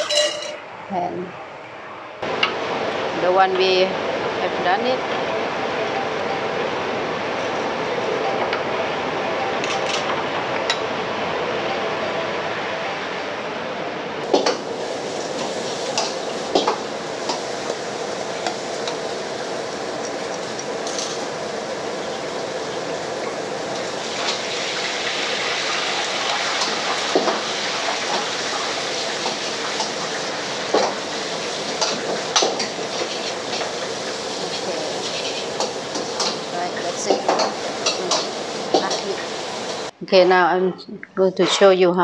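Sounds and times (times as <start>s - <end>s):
faint hum: 0.4s - 41.4s.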